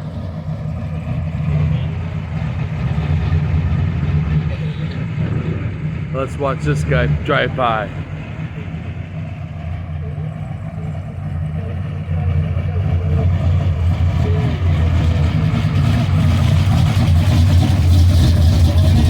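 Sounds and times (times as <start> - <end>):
car engine driving by: 0.0 - 19.0.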